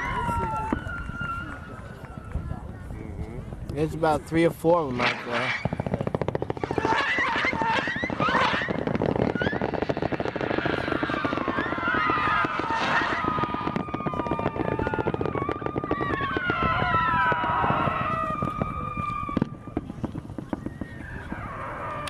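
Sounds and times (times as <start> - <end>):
fireworks crackling pops: 0.0 - 22.0.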